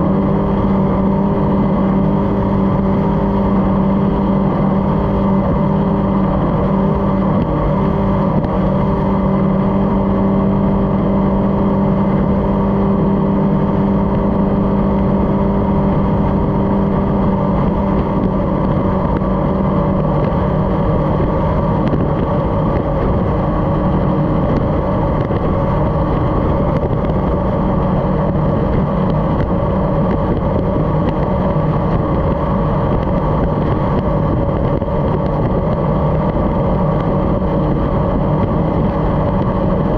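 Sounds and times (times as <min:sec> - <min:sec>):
powerboat engine drone: 0:00.0 - 0:39.9
rushing water and wind: 0:00.0 - 0:39.9.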